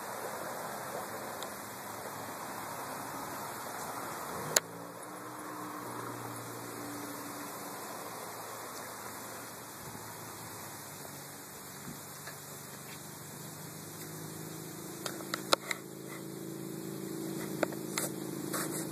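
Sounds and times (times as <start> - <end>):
steady hiss and hum: 0.0 - 18.9.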